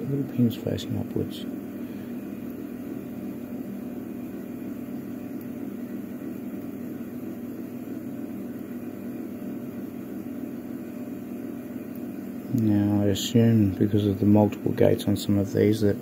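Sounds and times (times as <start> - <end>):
low background hum and hiss: 0.0 - 16.0.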